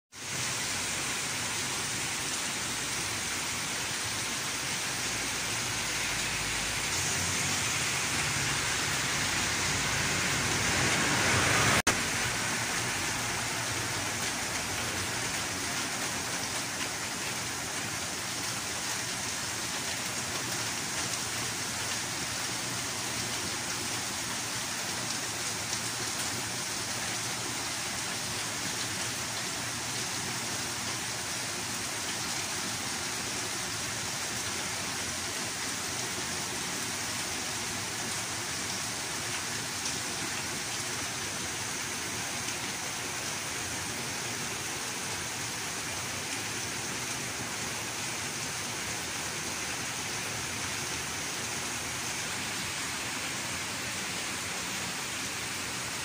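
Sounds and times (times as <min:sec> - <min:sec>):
rain on wet pavement: 0:00.1 - 0:56.0.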